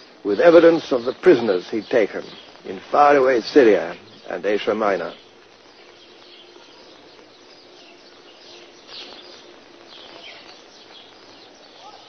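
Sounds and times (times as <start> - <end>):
bird chirps: 0.0 - 12.0
steady hiss: 0.0 - 12.0.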